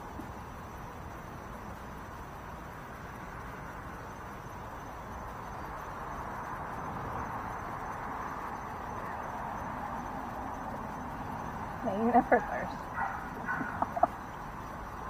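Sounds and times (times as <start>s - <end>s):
faint high whine: 0.0s - 15.0s
steady rushing noise: 0.0s - 15.0s.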